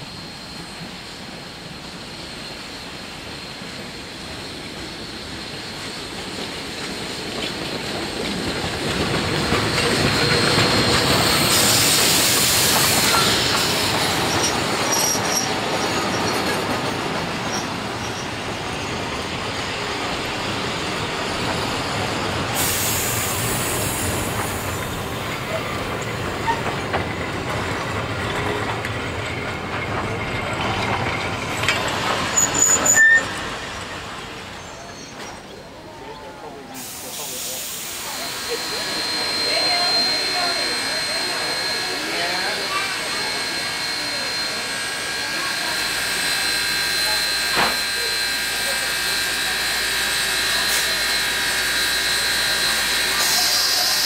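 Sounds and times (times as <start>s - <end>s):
steam train passing: 0.0s - 54.0s.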